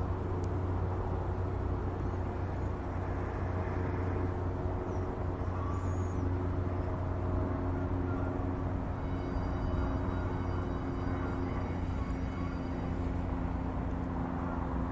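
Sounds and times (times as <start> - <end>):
faint hum tones: 0.0 - 14.9
steady low rumble: 0.0 - 14.9.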